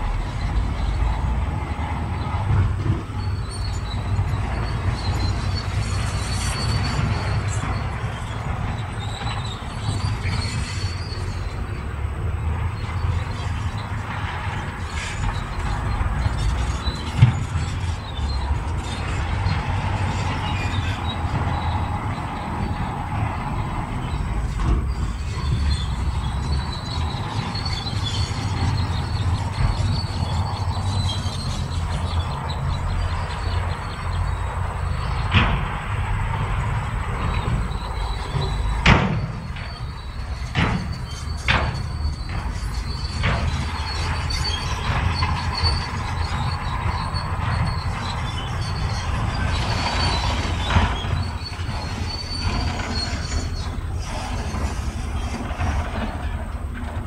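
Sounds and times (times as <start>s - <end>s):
bulldozer diesel engine: 0.0s - 57.0s
steel tracks squealing and clanking: 0.0s - 57.0s.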